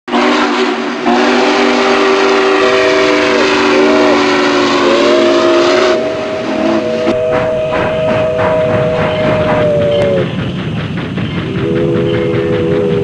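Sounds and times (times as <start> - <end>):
steam locomotive whistle: 0.1 - 10.4, 11.4 - 13.0
running train hiss and rumble: 0.1 - 13.0.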